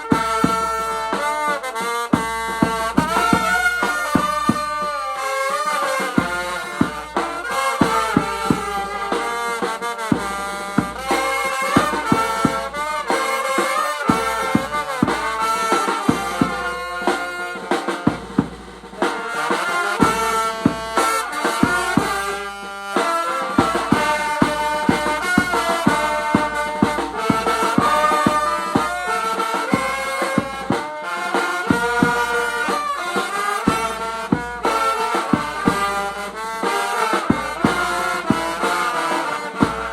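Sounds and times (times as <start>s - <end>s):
brass horns wavering melody: 0.0s - 39.9s
drum beats: 0.0s - 39.9s.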